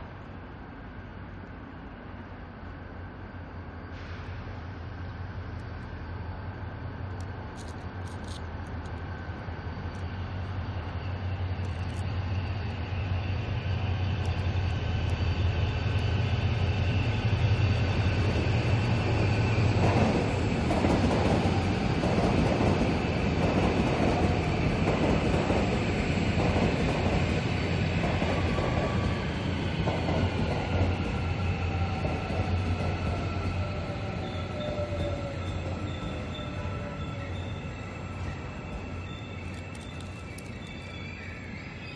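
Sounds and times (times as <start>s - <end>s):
electric train whining: 0.1s - 41.9s.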